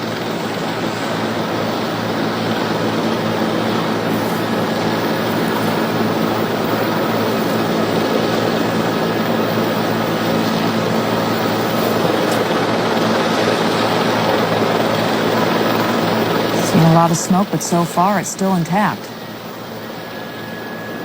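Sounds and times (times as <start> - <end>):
aircraft droning hum: 0.0 - 21.0.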